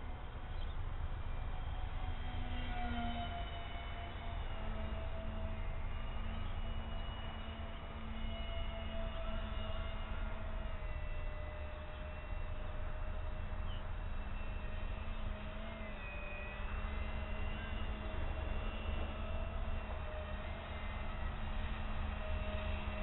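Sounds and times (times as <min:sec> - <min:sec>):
electric motors and propellers whine: 0:00.0 - 0:23.0.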